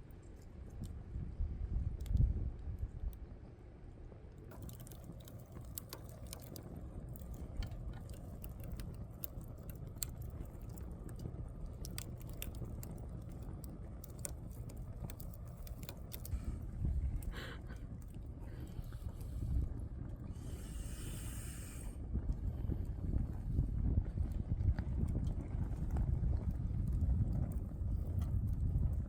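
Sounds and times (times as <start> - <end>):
campfire crackling and popping: 4.3 - 29.0.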